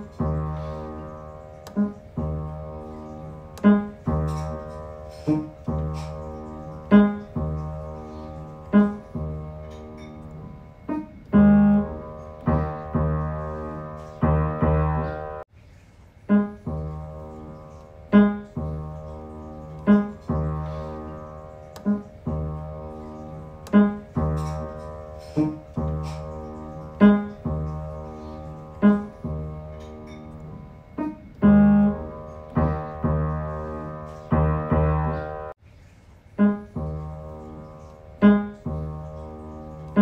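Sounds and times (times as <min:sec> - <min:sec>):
piano chords ringing: 0:00.0 - 0:15.5, 0:16.3 - 0:35.6, 0:36.4 - 0:40.0.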